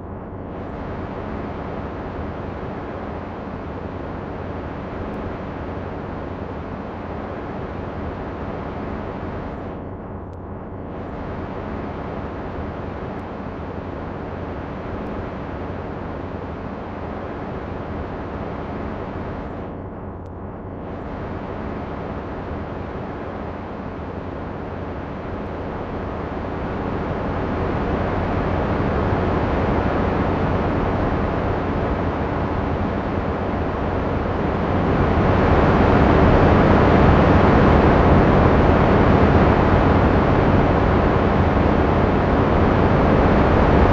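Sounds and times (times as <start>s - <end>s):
steady wind noise: 0.0s - 43.9s.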